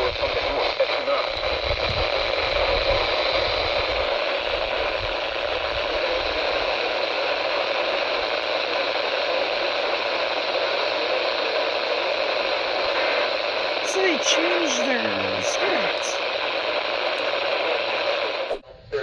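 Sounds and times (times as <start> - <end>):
radio static hiss: 0.0 - 18.6.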